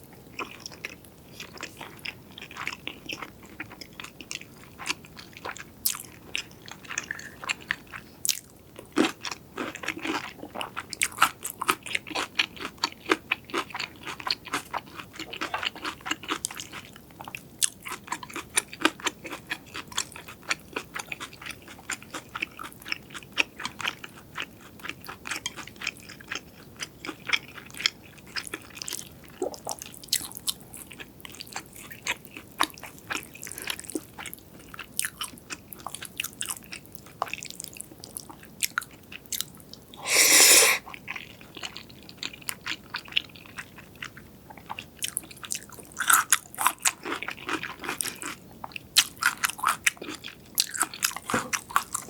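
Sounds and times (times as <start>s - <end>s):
crunchy chewing: 0.3s - 52.0s.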